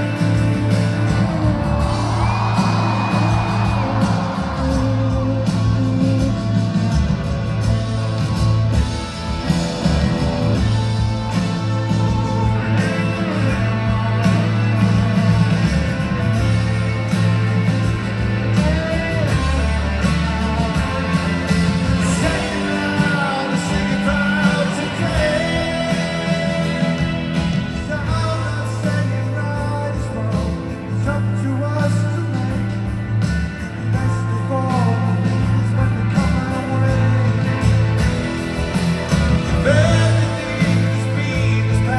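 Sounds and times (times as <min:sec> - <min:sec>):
person singing: 0:00.0 - 0:07.1, 0:09.9 - 0:33.0, 0:33.7 - 0:38.0, 0:39.3 - 0:41.9
live rock band playing: 0:00.0 - 0:41.9.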